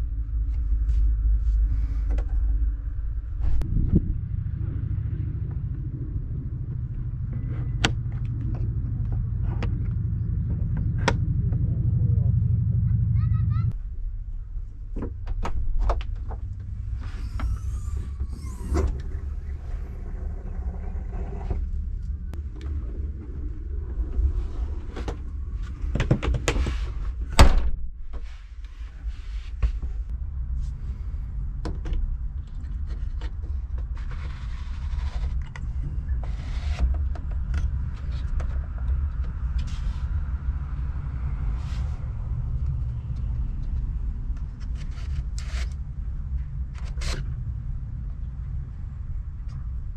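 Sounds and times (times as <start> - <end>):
low rumble: 0.0 - 49.9.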